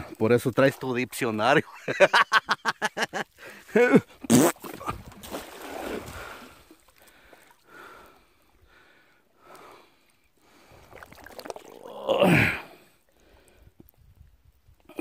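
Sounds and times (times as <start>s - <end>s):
water splashing and sloshing: 0.0s - 14.8s.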